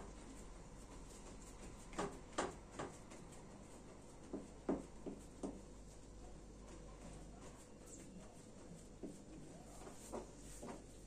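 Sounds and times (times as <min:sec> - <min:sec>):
faint low hum: 0:00.0 - 0:11.0
hands patting dough: 0:00.0 - 0:11.0.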